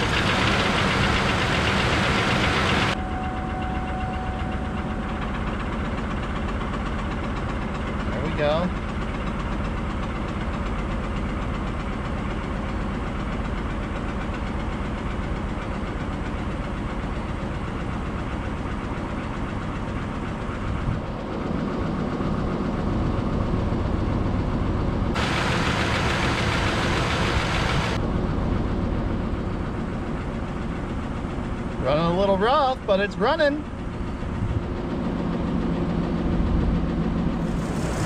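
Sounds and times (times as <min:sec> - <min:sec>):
car engine idling rough: 0:00.0 - 0:38.0.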